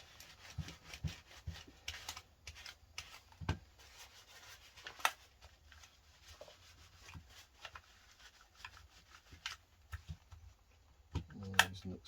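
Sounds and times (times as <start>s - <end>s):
scrubbing on plastic shell: 0.0s - 12.0s.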